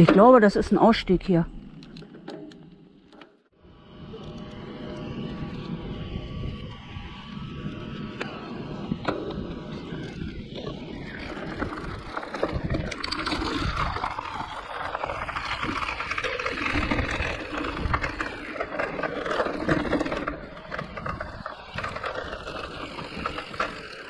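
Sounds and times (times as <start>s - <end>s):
bike clicks and rattles: 4.1s - 24.0s
bike tyres on rough trail: 4.3s - 24.0s.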